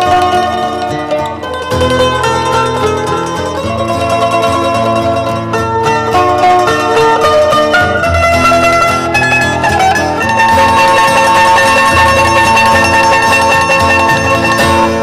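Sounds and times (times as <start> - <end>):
plucked string tune: 0.0 - 15.0.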